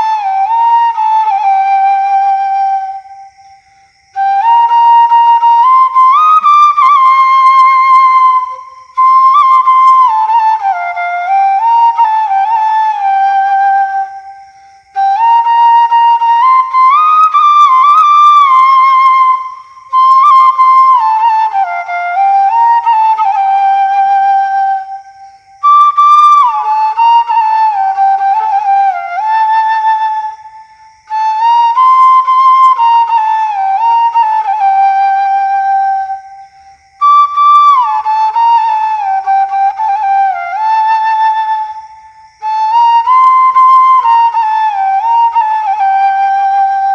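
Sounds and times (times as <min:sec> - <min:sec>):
bamboo flute melody: 0:00.0 - 0:46.9.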